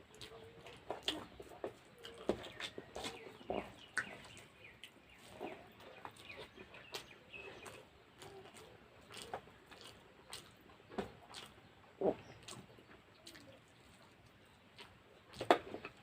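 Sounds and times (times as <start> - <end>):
wet chewing and lip smacks: 0.0 - 16.0.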